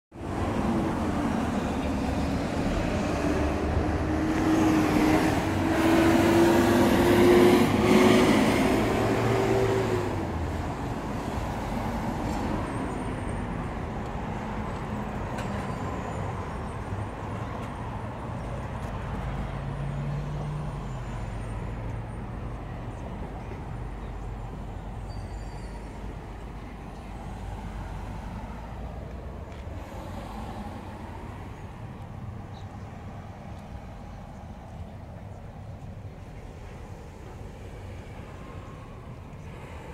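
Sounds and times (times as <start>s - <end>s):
road traffic passing: 0.1s - 39.9s.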